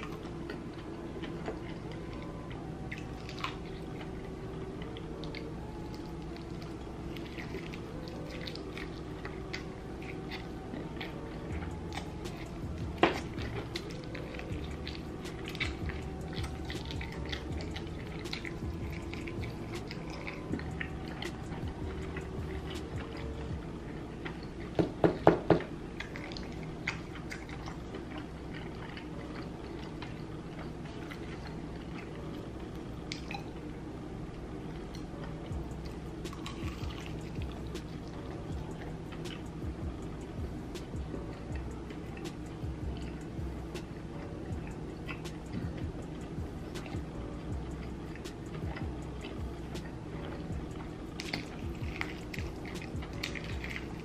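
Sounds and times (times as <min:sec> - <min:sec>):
wet sticky chewing: 0:00.0 - 0:25.0, 0:25.9 - 0:33.6, 0:34.8 - 0:54.0
faint steady music: 0:00.0 - 0:54.0.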